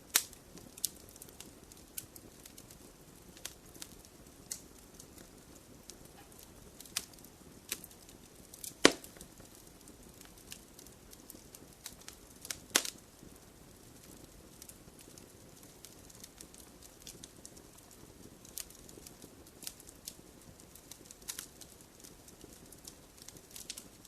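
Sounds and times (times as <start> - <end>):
loud fire pops: 0.0 - 24.0
low fire hiss: 0.0 - 24.0
wood fire crackling: 0.0 - 24.0.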